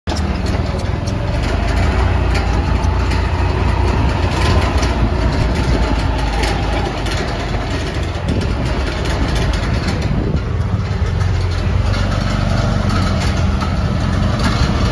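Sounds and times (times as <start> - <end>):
jeep engine droning: 0.1 - 14.9.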